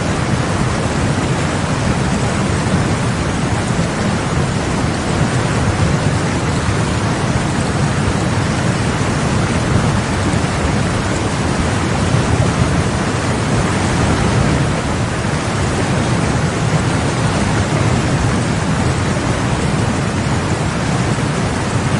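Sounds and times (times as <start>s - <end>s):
river rapids roaring: 0.0s - 21.9s.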